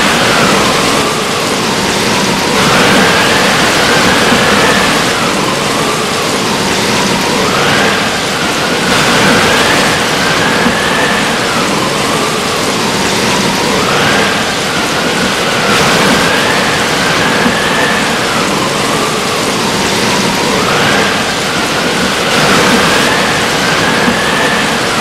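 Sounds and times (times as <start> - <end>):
heavy rain: 0.0 - 25.0
howling wind gusts: 0.0 - 25.0.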